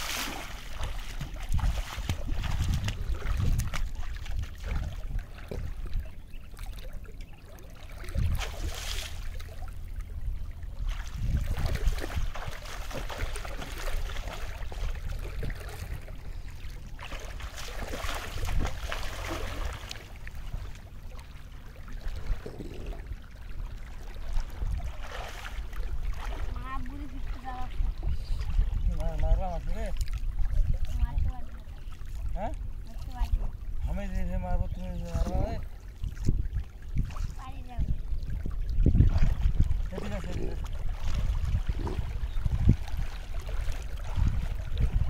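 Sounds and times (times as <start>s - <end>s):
water splashing around wading legs: 0.0s - 33.6s, 35.0s - 45.0s.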